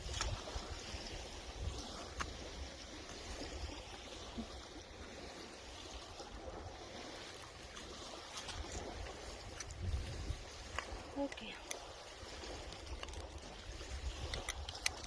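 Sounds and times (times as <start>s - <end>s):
sea water washing along shore: 0.0s - 15.0s
wind rumbling on microphone: 0.0s - 15.0s.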